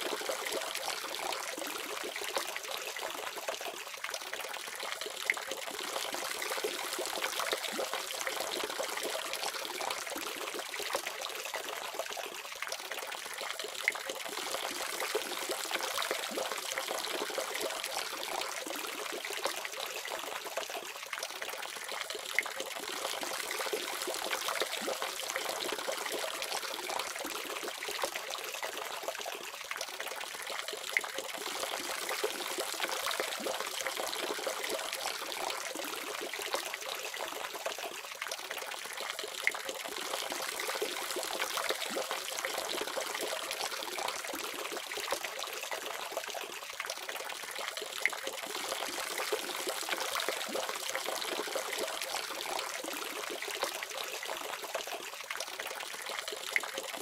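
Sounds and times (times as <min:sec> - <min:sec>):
small crackling drips: 0:00.0 - 0:57.0.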